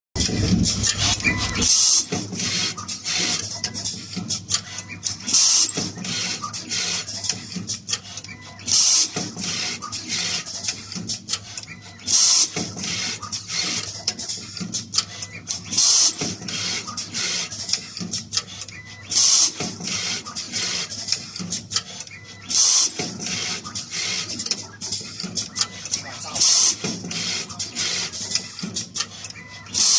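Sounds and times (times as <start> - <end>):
machine mechanism clicking: 0.2 - 29.9.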